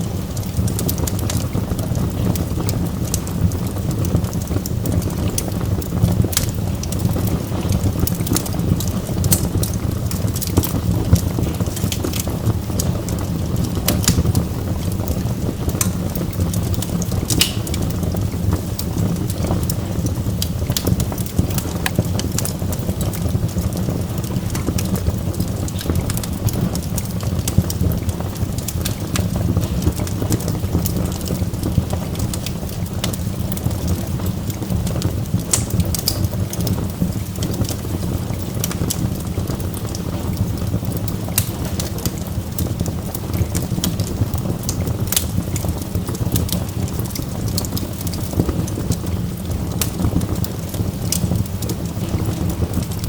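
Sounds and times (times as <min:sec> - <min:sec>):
burning logs crackling: 0:00.0 - 0:53.0
low rumble of fire: 0:00.0 - 0:53.0.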